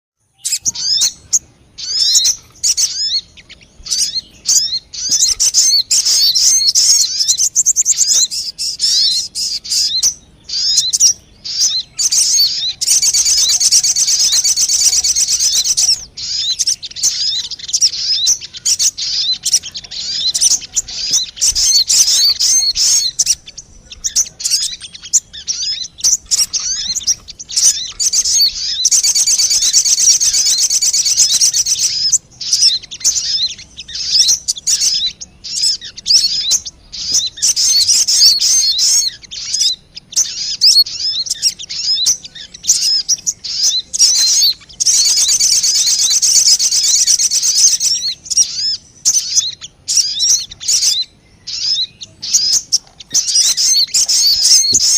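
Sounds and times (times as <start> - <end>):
bird chirps and twittering: 0.2 - 54.9
fast bird trilling: 0.4 - 54.9.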